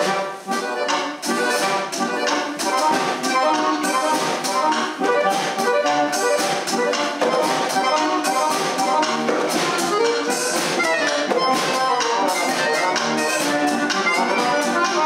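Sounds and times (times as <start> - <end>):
piano accordion melody: 0.0 - 15.0.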